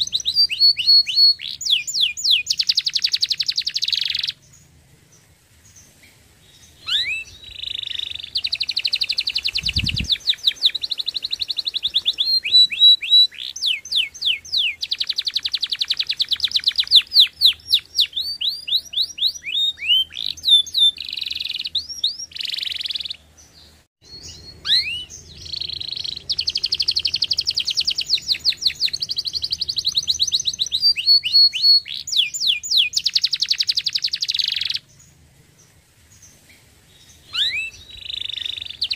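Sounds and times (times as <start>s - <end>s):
canary singing in trills: 0.0s - 38.9s.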